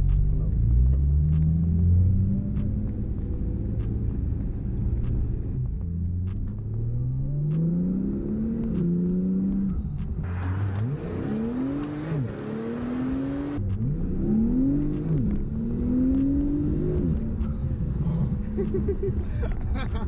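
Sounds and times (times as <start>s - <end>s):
car engine accelerating through gears: 0.0s - 17.7s.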